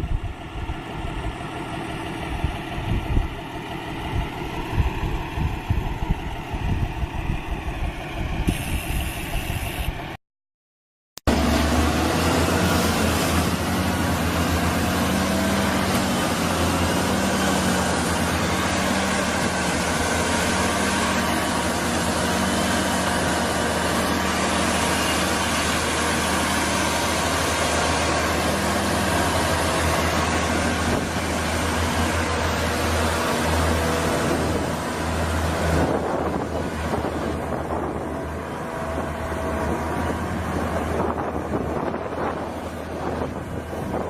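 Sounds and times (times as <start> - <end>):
heavy vehicle engine humming: 0.0 - 10.2, 11.3 - 44.0.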